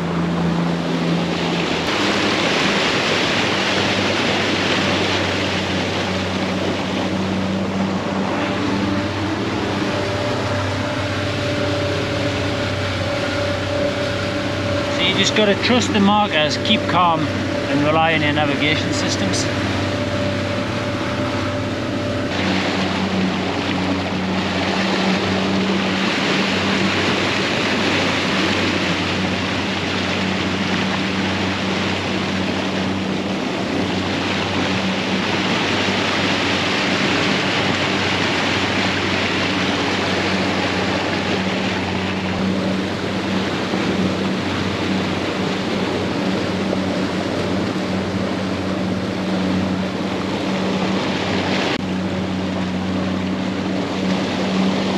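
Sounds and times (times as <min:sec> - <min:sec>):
boat engine running: 0:00.0 - 0:54.9
water rushing along hull: 0:00.0 - 0:54.9.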